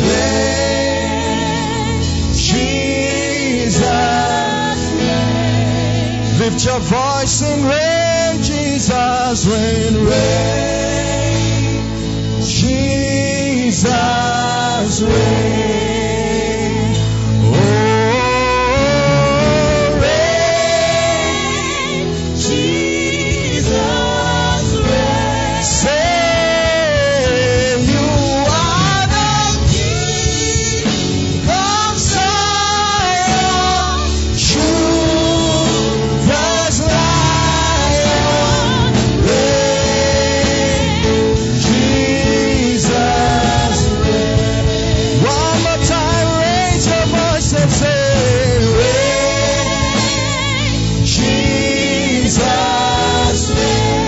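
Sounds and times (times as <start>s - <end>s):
backing singers: 0.0s - 8.9s, 9.9s - 54.0s
band accompaniment: 0.0s - 54.0s
lead singer: 0.0s - 54.0s.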